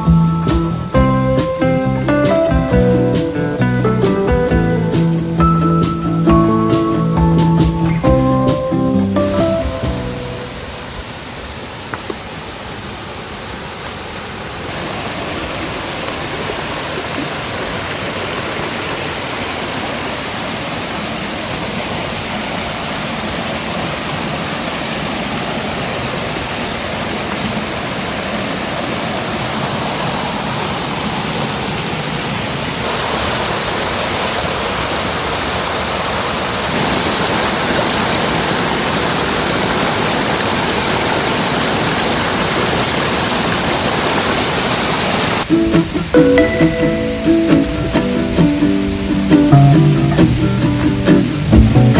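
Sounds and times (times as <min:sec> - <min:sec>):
stream rushing water: 0:00.0 - 0:51.9.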